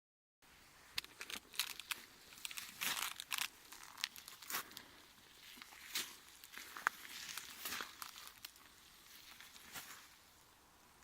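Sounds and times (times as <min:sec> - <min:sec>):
crunching and crinkling: 0:01.0 - 0:10.4.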